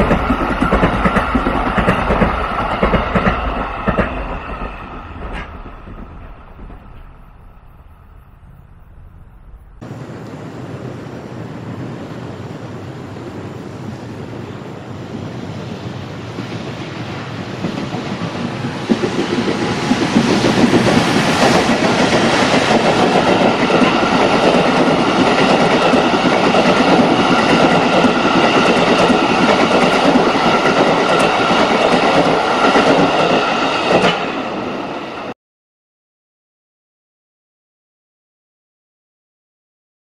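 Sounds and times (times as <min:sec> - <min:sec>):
train wheels on rails: 0:00.0 - 0:07.9, 0:08.9 - 0:35.4.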